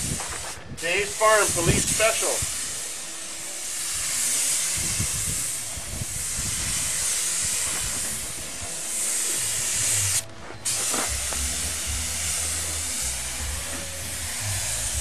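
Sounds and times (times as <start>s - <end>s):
paint spray gun hissing: 0.0s - 15.0s.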